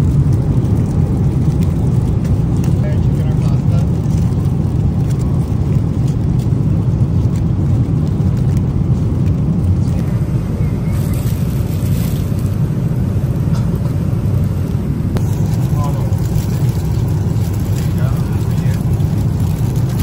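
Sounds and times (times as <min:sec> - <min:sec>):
jet airliner cabin drone: 0:00.0 - 0:20.0.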